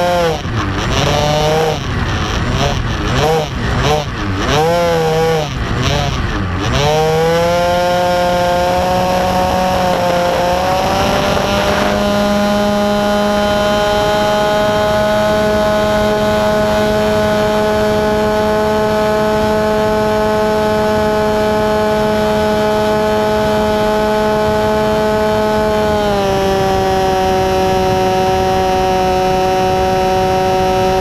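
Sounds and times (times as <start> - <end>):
model aeroplane motor buzzing: 0.0 - 31.0
rush of wind: 0.0 - 31.0.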